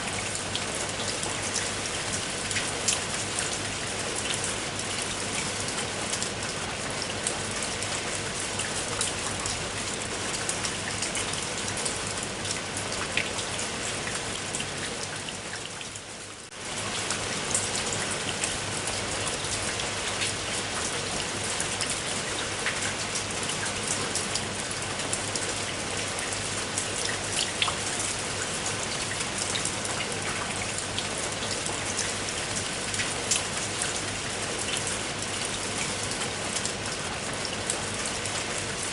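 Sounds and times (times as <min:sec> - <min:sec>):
raindrops striking a surface: 0:00.0 - 0:38.9
steady rain falling: 0:00.0 - 0:38.9.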